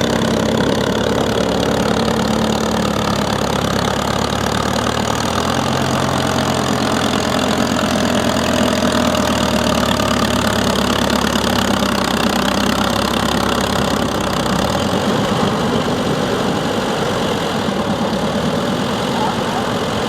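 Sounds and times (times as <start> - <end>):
tractor engine running steadily: 0.0 - 20.0.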